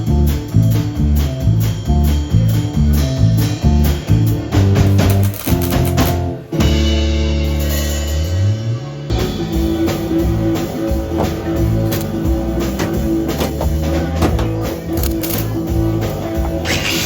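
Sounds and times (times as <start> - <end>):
blues band music: 0.0 - 17.0.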